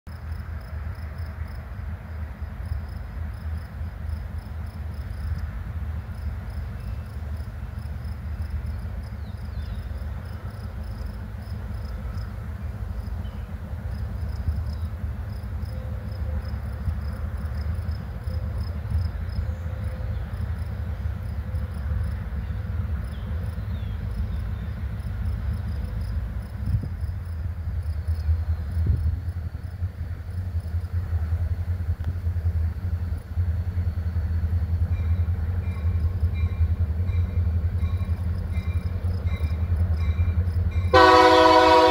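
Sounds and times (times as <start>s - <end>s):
insects chirping: 0.1s - 41.1s
locomotive engine rumbling: 0.1s - 41.9s.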